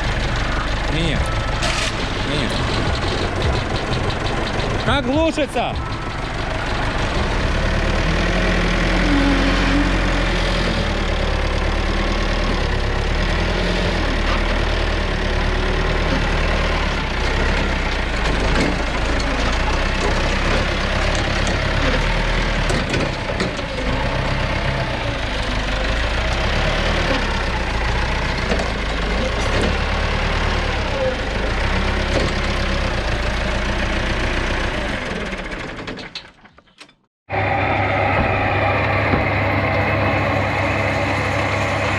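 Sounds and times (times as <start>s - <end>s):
heavy machine engine idling: 0.0s - 36.0s, 37.3s - 41.9s.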